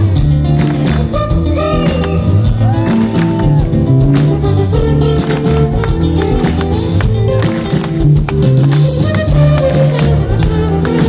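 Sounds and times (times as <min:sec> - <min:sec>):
electric bass: 0:00.0 - 0:11.0
steady beat: 0:00.0 - 0:11.0.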